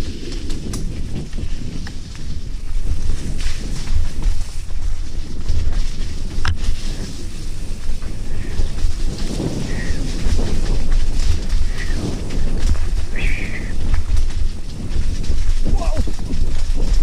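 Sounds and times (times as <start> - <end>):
bike rumbling and rattling: 0.0 - 17.0
tyres crunching over dirt: 0.4 - 17.0.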